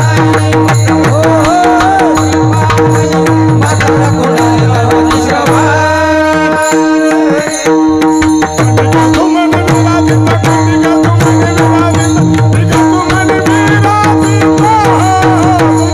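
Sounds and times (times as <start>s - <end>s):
hand drum played fast: 0.0s - 15.9s.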